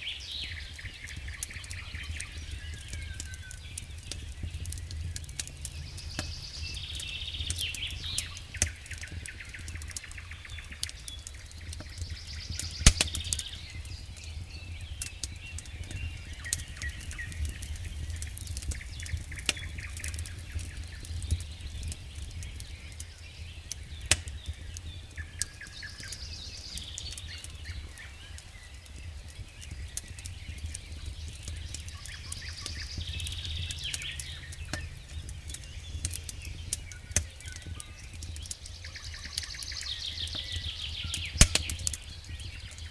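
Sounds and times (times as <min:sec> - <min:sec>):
birds calling: 0:00.0 - 0:42.9
campfire crackling and popping: 0:00.0 - 0:42.9
steady low rumble: 0:00.8 - 0:25.4, 0:26.2 - 0:41.4.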